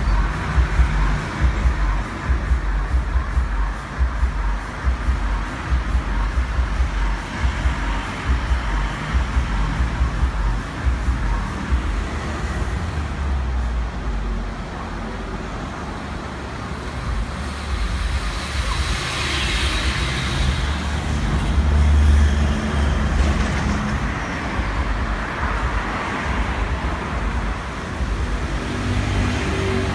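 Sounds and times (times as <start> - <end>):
motor vehicles passing: 0.0 - 29.9.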